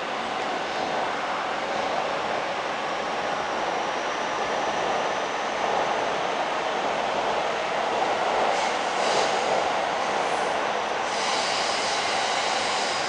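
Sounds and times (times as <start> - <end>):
train rolling on rails: 0.0 - 13.0.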